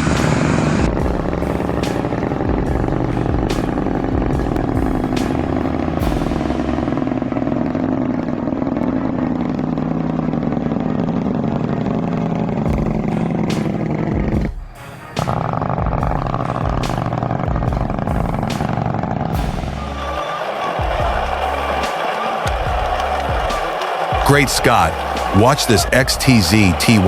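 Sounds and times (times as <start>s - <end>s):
heavy vehicle engine running: 0.0s - 27.0s.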